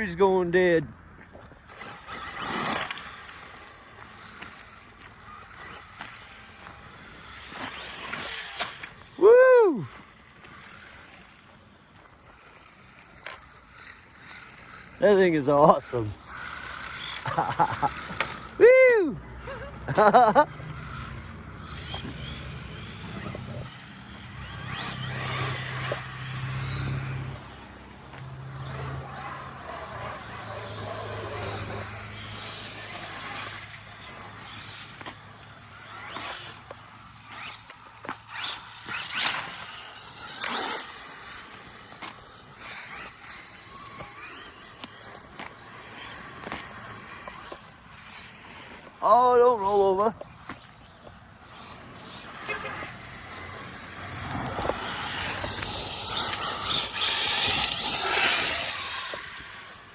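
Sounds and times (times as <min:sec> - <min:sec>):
tyres rushing in gravel: 0:00.0 - 0:18.7, 0:19.8 - 0:59.9
electric motor whining: 0:00.0 - 0:59.9.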